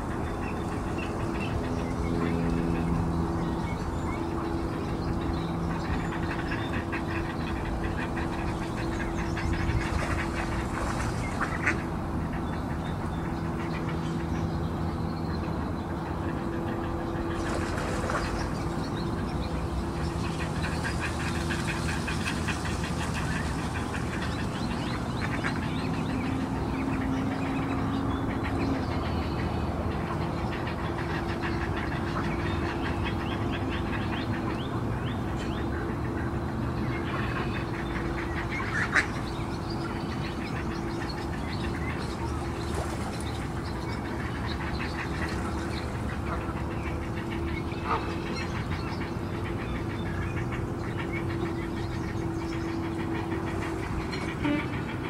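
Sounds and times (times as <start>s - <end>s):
engine hum: 0.0s - 55.0s
ducks quacking: 4.3s - 14.4s, 16.0s - 55.0s.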